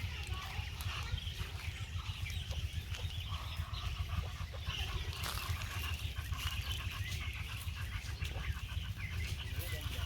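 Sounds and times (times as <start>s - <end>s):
poultry calling: 0.0s - 10.0s.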